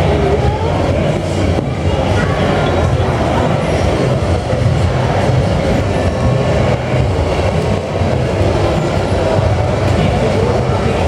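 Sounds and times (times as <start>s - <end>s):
crowded hall din: 0.0s - 11.0s.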